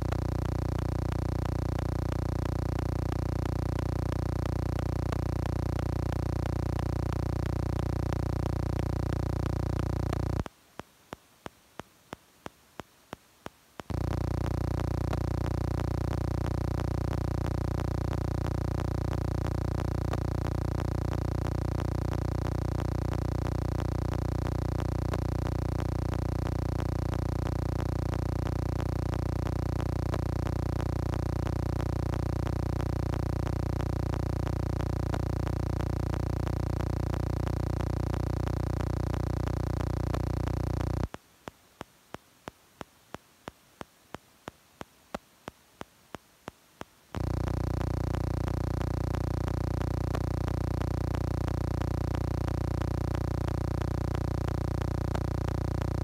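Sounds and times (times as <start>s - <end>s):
steady electronic hum: 0.0s - 10.5s, 13.8s - 41.2s, 47.1s - 56.0s.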